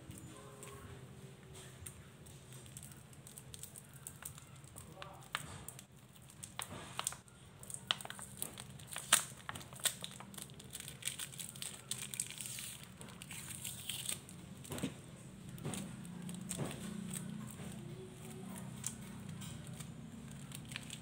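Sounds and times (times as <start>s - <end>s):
plastic sachet crinkling: 1.7s - 21.0s.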